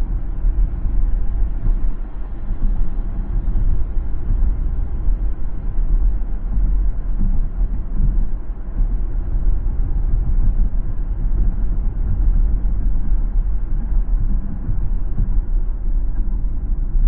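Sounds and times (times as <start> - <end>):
car road rumble: 0.0 - 17.0.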